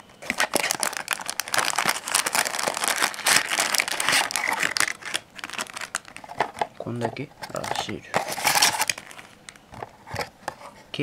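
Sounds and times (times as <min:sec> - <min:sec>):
plastic bags crinkling: 0:00.0 - 0:06.8, 0:07.5 - 0:09.6.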